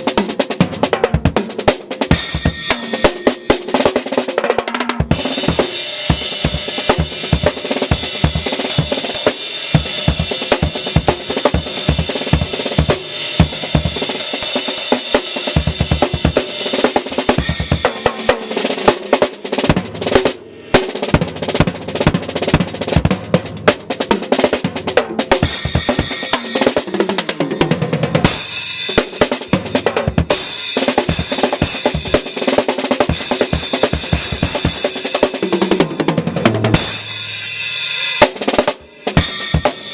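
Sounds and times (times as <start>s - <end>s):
drum kit solo: 0.0s - 39.9s.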